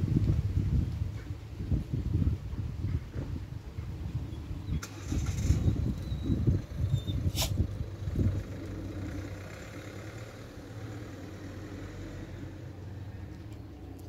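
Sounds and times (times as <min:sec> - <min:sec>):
low engine-like hum: 0:00.0 - 0:14.0
low rumbles: 0:00.0 - 0:14.0.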